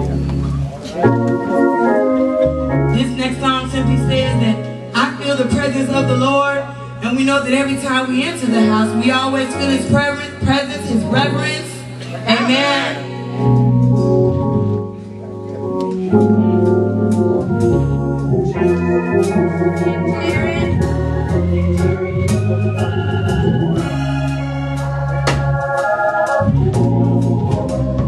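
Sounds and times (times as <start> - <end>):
organ playing sustained chords: 0.0 - 28.0.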